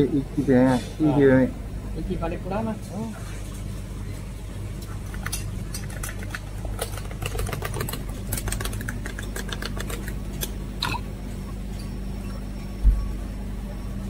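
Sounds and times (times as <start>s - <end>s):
low hum: 1.5s - 14.0s.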